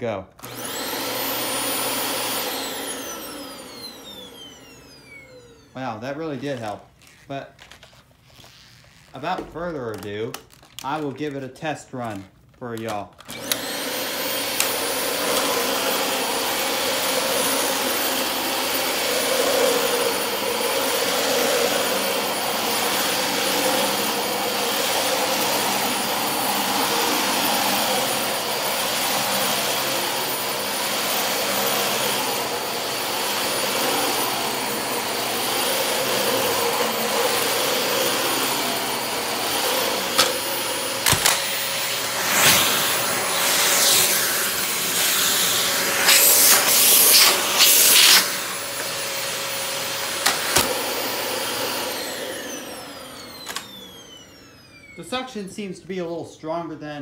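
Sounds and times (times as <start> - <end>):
vacuum cleaner running: 0.4 - 10.0, 13.2 - 56.1.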